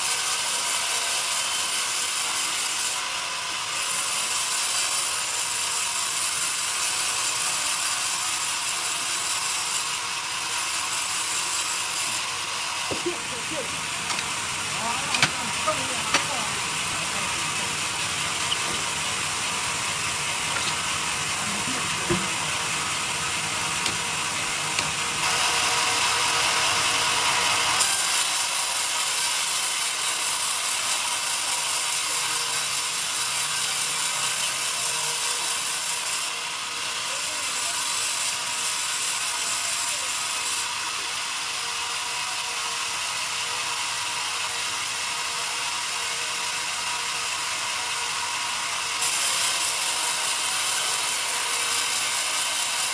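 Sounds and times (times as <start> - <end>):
band saw cutting log: 0.0 - 52.9.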